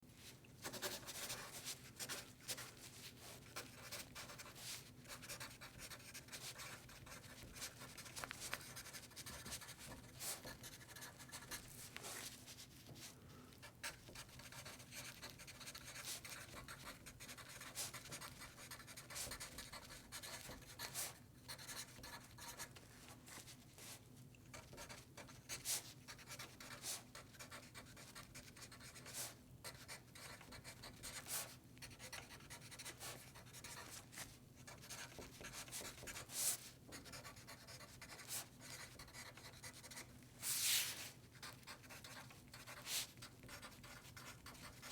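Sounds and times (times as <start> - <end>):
pencil writing on paper: 0.6 - 2.7, 3.4 - 11.6, 13.8 - 22.7, 24.6 - 34.1, 34.7 - 40.1, 40.9 - 44.9.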